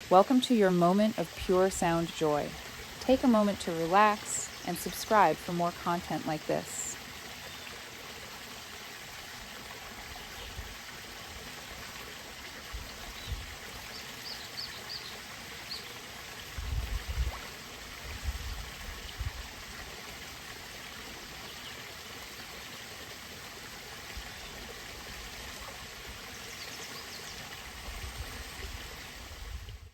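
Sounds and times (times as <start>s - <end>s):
trickling running water: 0.0s - 29.9s.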